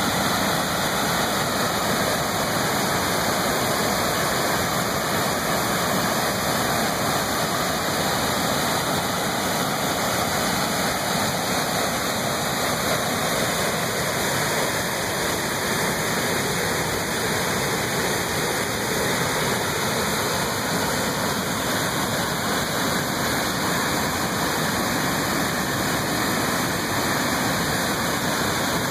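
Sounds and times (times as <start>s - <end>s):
water rushing over rocks: 0.0s - 28.9s.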